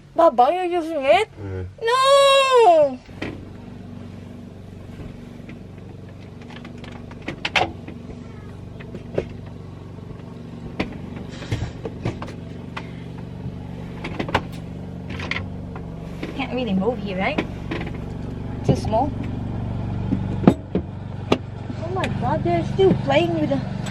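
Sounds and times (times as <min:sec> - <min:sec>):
ride-on lawnmower engine running: 0:01.0 - 0:23.9.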